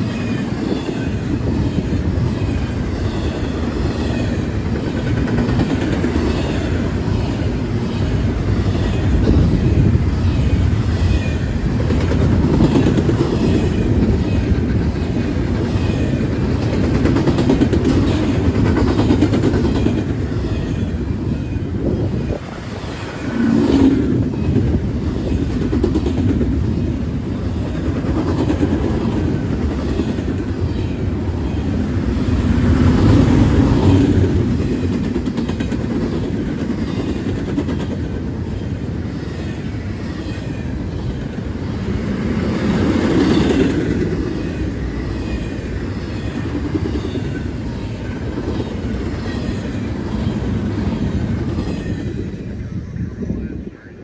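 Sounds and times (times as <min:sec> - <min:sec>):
freight train wheels rumbling on rail: 0:00.0 - 0:54.0
rail clicks: 0:00.0 - 0:54.0.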